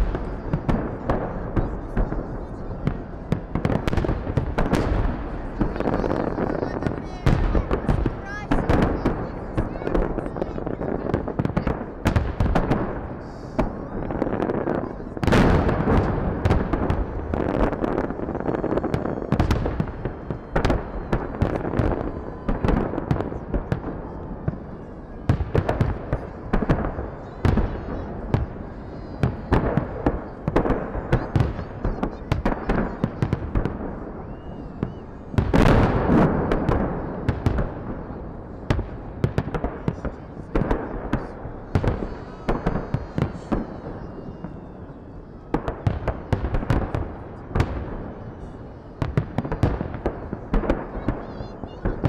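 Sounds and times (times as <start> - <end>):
fireworks booming and cracking: 0.0 - 52.0.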